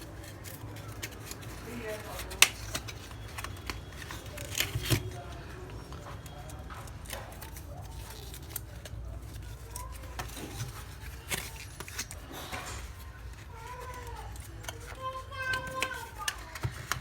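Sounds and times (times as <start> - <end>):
small objects rustling: 0.0 - 17.0.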